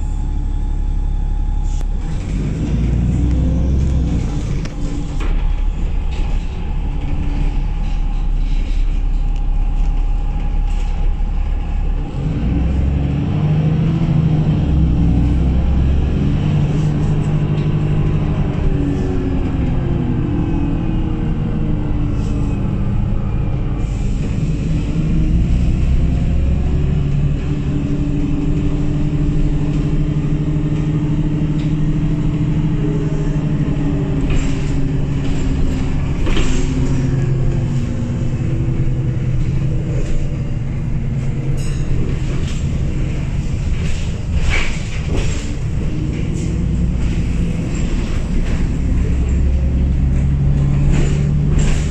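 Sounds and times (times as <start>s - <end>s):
bus engine with blown exhaust: 0.0s - 51.9s.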